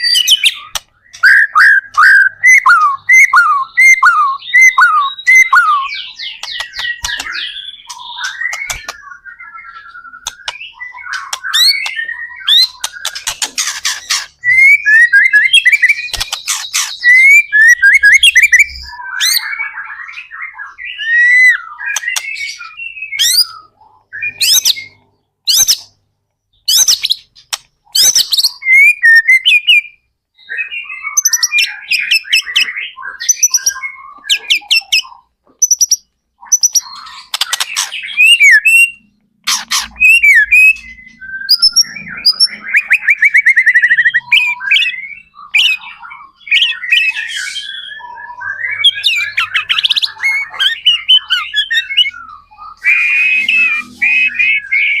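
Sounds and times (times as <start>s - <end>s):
songbird whistling and trilling: 0.0s - 55.0s.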